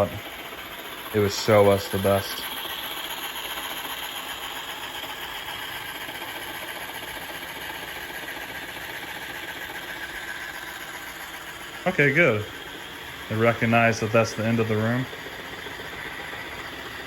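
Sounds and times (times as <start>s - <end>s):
robot vacuum mop humming: 0.0s - 17.0s.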